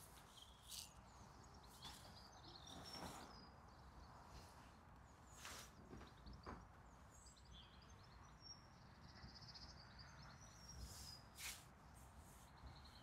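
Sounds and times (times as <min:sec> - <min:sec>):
faint distant birdsong: 0:00.0 - 0:13.0.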